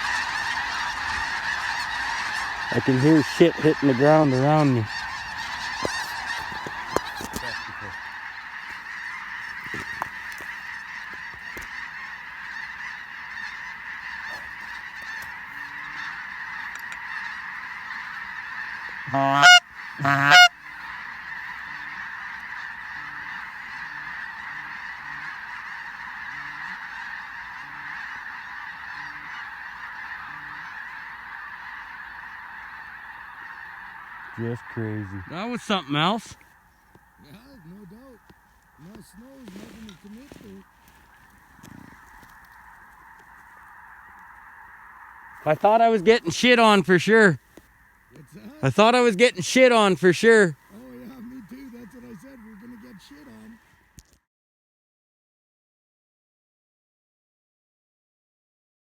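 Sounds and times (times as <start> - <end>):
loud wavering goose calls: 0.0 - 54.1
flock of geese honking: 0.0 - 54.2.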